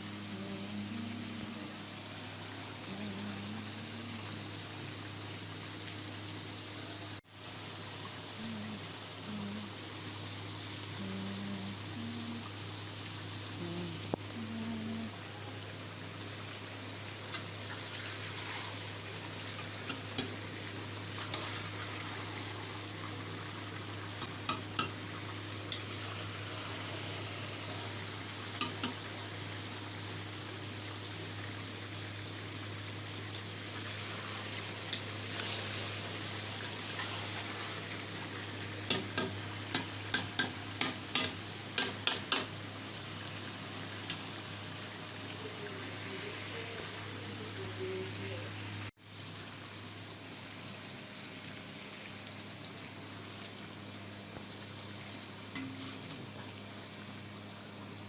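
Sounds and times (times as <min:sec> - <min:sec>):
curry sizzling in a pot: 0:01.2 - 0:02.9, 0:03.6 - 0:11.1, 0:11.7 - 0:14.4, 0:15.1 - 0:58.0.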